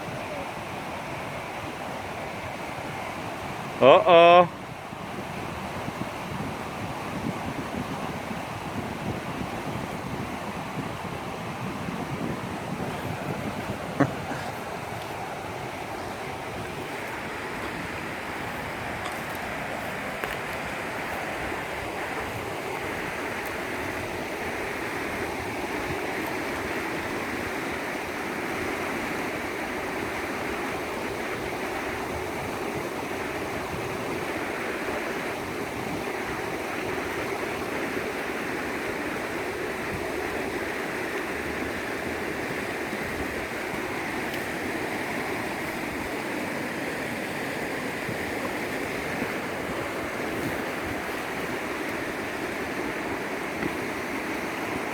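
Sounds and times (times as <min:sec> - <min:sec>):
river current rushing: 0:00.0 - 0:54.9.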